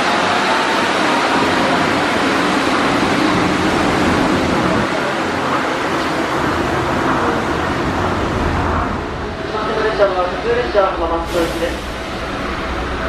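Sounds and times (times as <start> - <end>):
monorail train running: 0.0 - 13.0.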